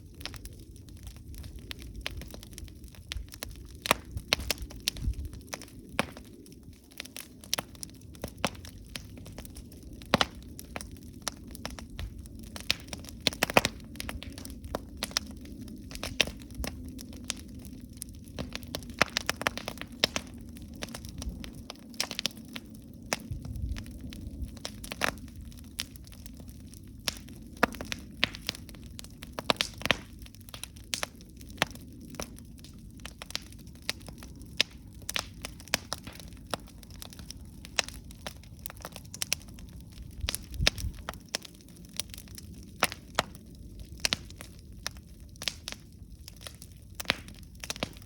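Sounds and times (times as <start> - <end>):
campfire pops and crackles: 0.0 - 48.0
low rumble of flames: 0.0 - 48.0.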